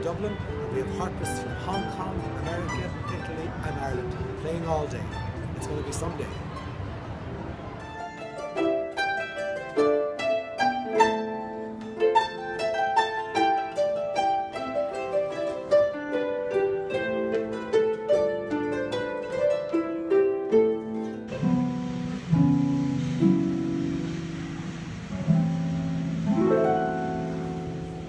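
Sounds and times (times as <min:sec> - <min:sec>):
harps plucked: 0:00.0 - 0:28.0.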